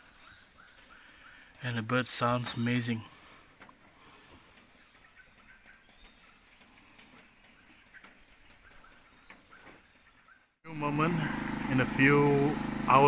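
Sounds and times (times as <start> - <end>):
crickets chirping: 0.0 - 10.6
faint bird chirps: 0.0 - 10.6.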